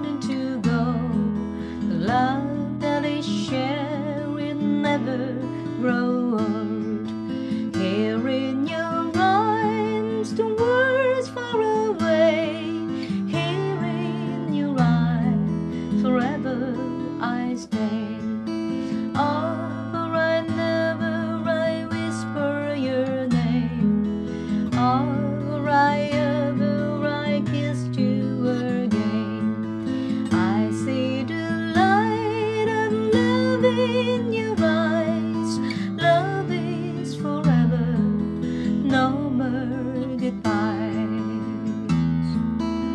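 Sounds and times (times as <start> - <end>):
acoustic guitar strummed and picked: 0.0 - 42.9.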